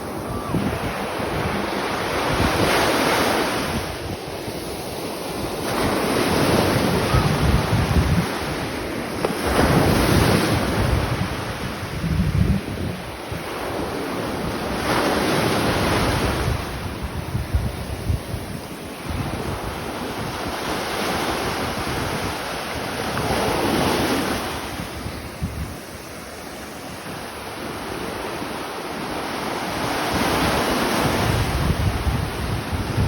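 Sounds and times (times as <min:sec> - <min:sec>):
sea waves breaking on shore: 0:00.0 - 0:33.0
wind buffeting microphone: 0:00.0 - 0:33.0.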